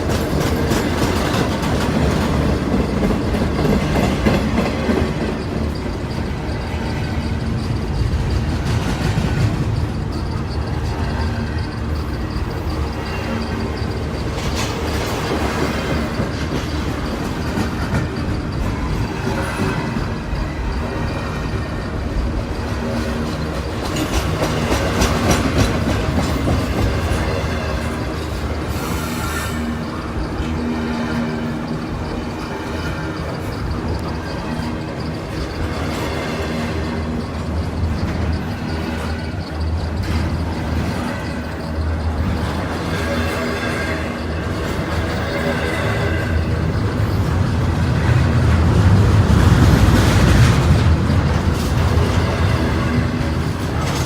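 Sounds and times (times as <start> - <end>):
freight train rumbling past: 0.0 - 54.0
wheels clattering over rail joints: 0.0 - 54.0.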